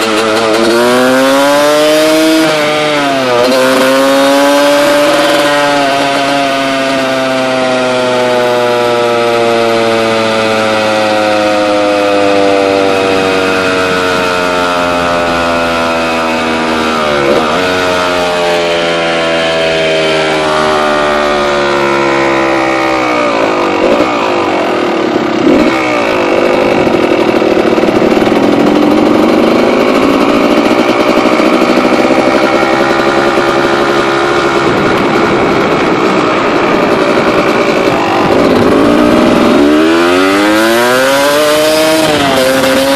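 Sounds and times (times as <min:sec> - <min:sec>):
quad engine high revs: 0:00.0 - 0:42.9.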